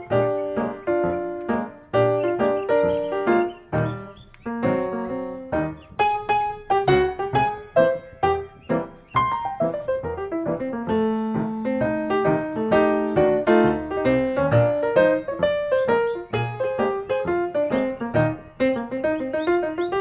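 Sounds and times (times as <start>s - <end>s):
lively piano music: 0.0s - 20.0s.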